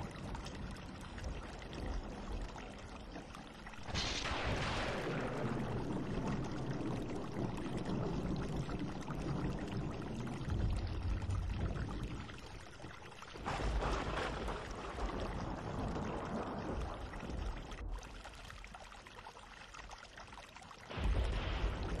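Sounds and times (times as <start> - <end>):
oil sizzling and bubbling: 0.0 - 22.0.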